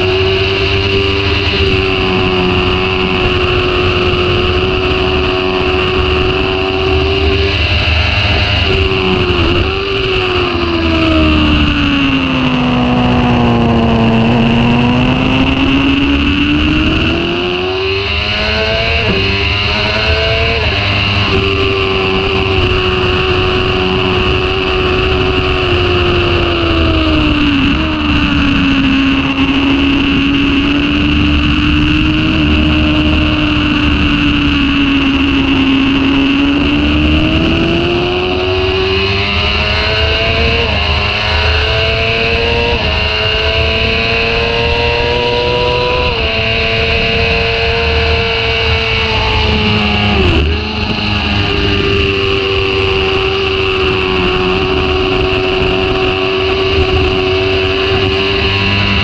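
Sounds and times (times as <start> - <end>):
motorcycle engine at speed: 0.0 - 59.0
wind noise: 0.0 - 59.0.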